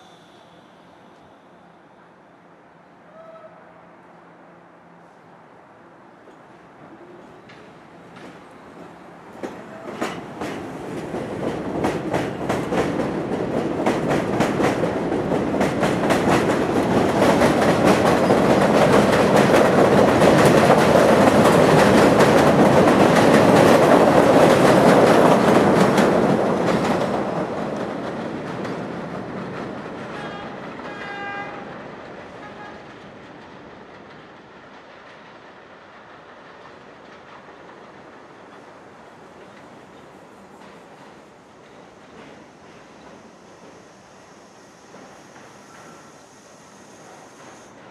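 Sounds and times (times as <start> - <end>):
subway train wheels clattering: 0.0 - 47.9.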